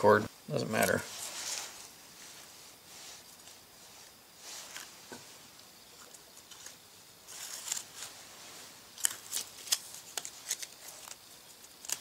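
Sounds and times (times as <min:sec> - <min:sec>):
rustling: 0:00.7 - 0:12.0.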